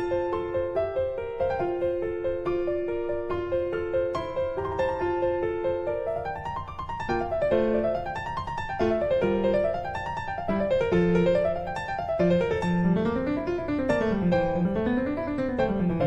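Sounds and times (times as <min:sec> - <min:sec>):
instrumental keyboard music: 0:00.0 - 0:16.0.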